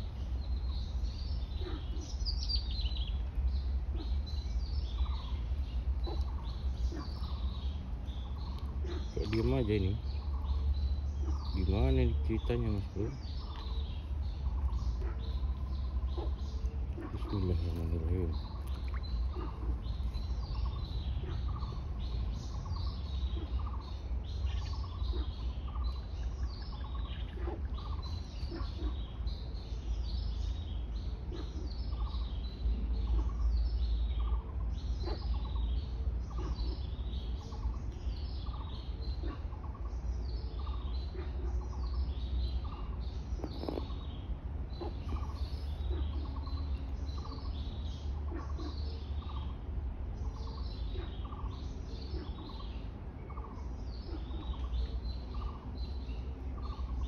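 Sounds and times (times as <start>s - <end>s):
birds chirping and calling: 0.0s - 57.0s
steady low rumble: 0.0s - 57.0s.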